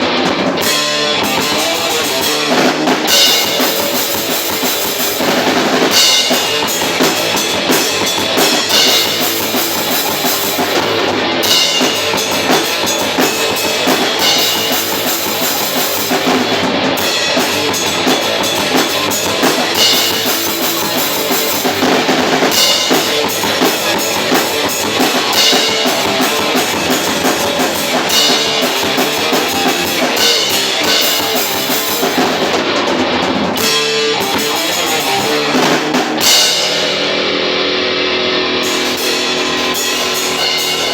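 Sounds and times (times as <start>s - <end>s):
bass drum: 0.0s - 36.8s
metal band playing loud: 0.0s - 40.9s.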